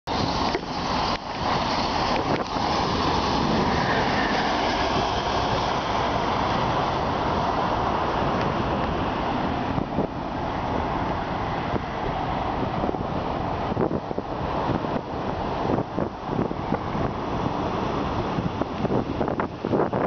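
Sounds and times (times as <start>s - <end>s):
diesel engine: 0.1s - 20.0s
train wheels rumbling on rails: 0.1s - 20.0s
wind buffeting microphone: 0.1s - 20.0s.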